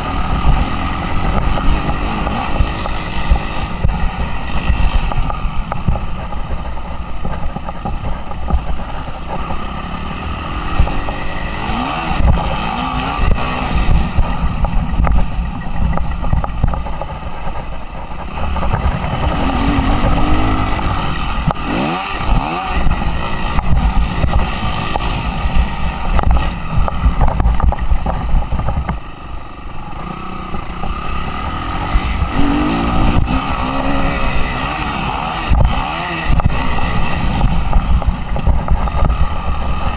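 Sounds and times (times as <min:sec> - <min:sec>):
motocross engine revving: 0:00.0 - 0:06.6, 0:08.7 - 0:17.6, 0:18.2 - 0:28.3, 0:29.0 - 0:39.9
wind buffeting microphone: 0:00.0 - 0:29.2, 0:31.8 - 0:39.9.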